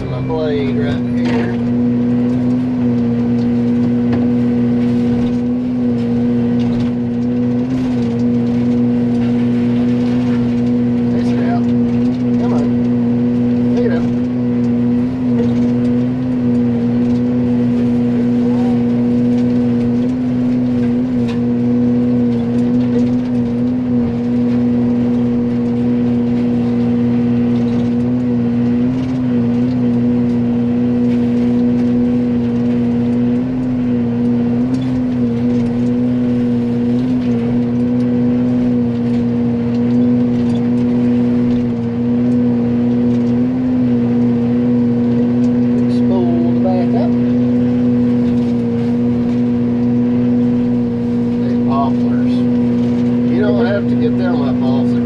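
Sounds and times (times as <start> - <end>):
excavator mulcher droning: 0.0 - 55.0.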